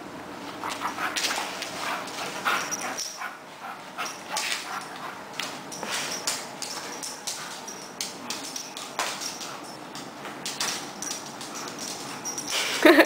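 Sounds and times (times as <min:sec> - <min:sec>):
dog claws scrabbling on wood: 0:00.5 - 0:12.5.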